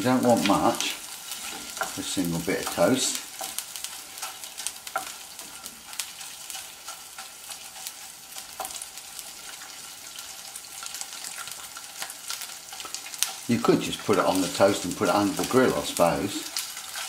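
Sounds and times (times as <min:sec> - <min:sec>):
livers sizzling and popping: 0:00.0 - 0:17.0
wooden spatula stirring: 0:00.0 - 0:17.0.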